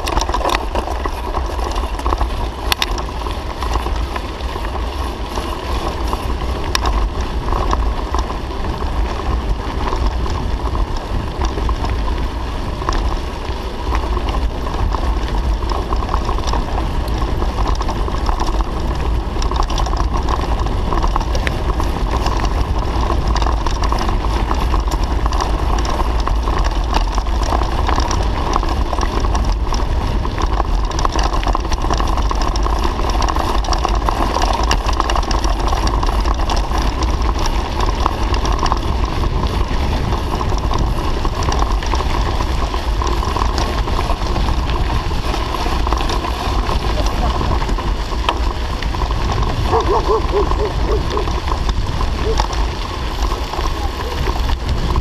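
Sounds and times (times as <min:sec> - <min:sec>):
bike rattling: 0:00.0 - 0:55.0
tyres on loose gravel: 0:00.0 - 0:55.0
wind rumble on microphone: 0:00.0 - 0:55.0.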